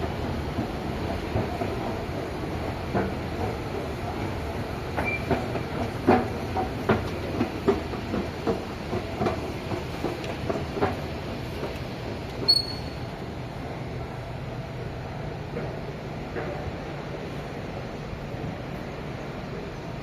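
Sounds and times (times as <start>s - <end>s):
wheels clacking over rail joints: 0.0s - 13.6s, 14.3s - 18.4s
train rumbling on track: 0.0s - 20.0s.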